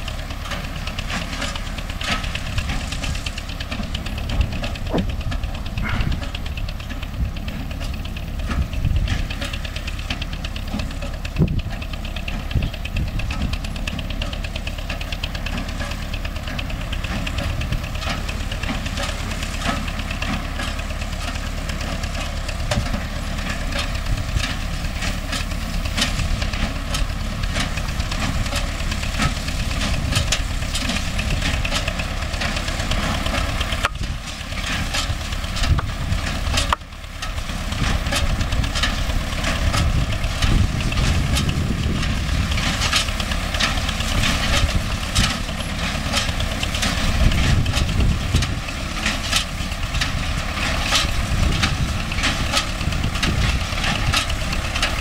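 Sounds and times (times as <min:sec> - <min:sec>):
hay baler knocking and clacking: 0:00.0 - 0:55.0
tractor diesel engine running: 0:00.0 - 0:55.0.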